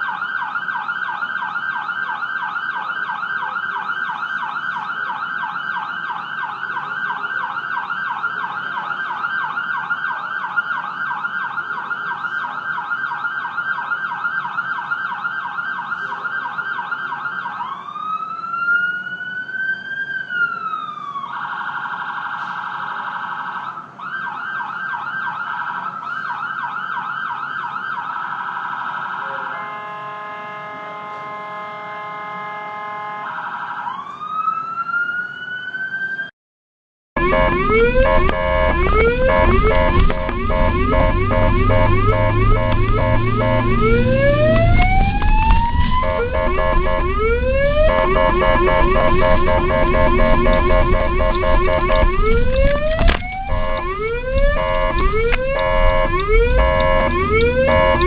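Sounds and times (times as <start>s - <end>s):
ambulance siren: 0.0s - 36.3s, 37.2s - 58.0s.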